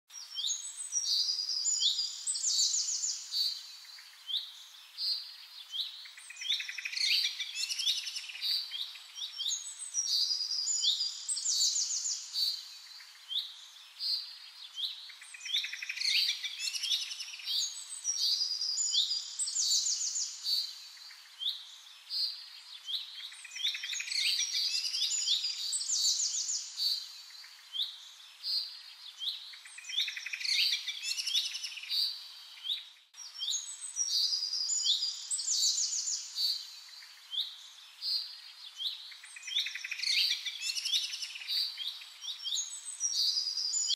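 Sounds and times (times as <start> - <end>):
songbirds chirping and trilling: 0.1 - 43.9.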